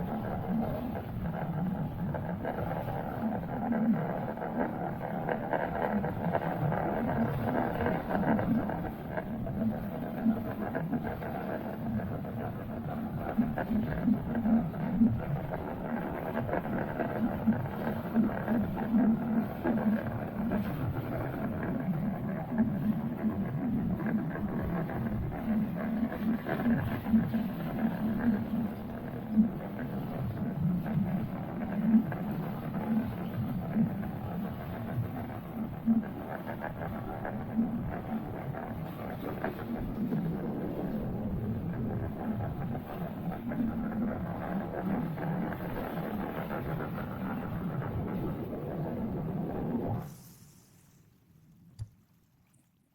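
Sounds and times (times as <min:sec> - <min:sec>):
wind: 0:00.0 - 0:52.9
water noise: 0:01.8 - 0:52.9.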